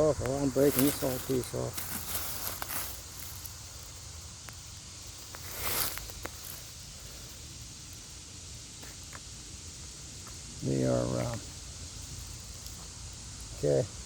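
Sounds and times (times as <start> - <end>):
mushroom rustling and handling: 0.0 - 13.0.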